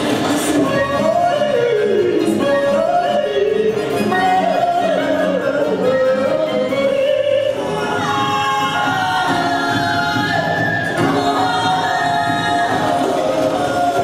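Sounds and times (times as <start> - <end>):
song over loudspeakers: 0.0 - 14.0.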